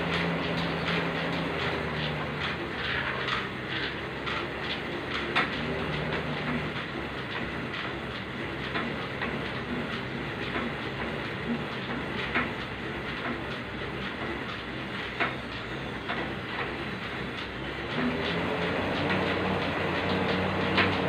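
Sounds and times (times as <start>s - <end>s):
cross trainer flywheel whir: 0.0s - 21.0s.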